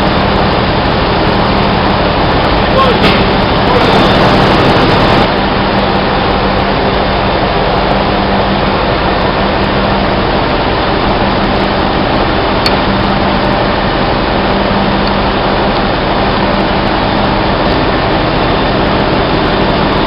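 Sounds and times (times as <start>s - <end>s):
engine-room machinery humming: 0.0s - 20.0s.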